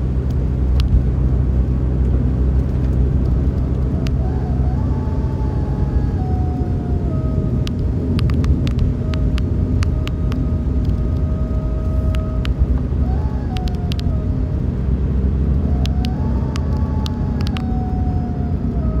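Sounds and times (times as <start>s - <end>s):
car engine and road noise: 0.0s - 19.0s
faint whine varying in pitch: 0.0s - 19.0s.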